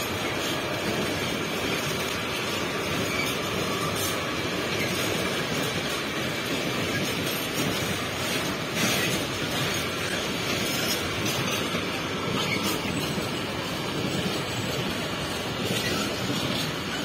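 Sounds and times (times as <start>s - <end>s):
freight train wheels rolling: 0.0s - 17.0s.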